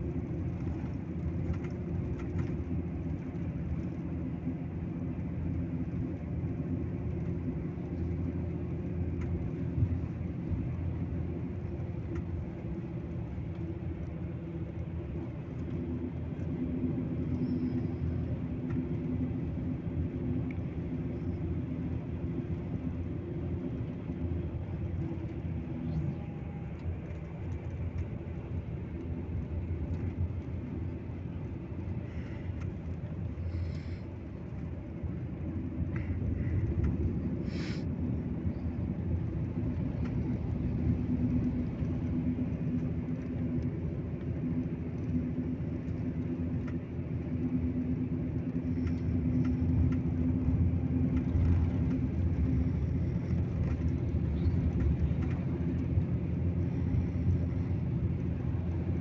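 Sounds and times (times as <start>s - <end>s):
bus engine drone: 0.0s - 59.0s
road noise: 0.0s - 59.0s.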